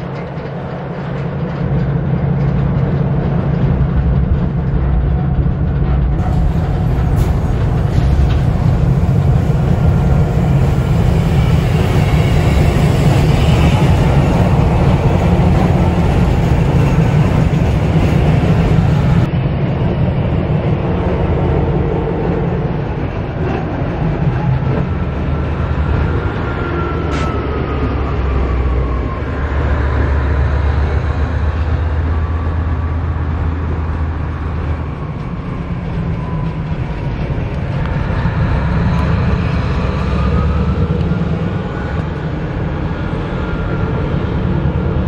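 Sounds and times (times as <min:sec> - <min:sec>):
diesel locomotives rumbling: 0:00.0 - 0:45.0
train wheels rumbling: 0:00.0 - 0:45.0.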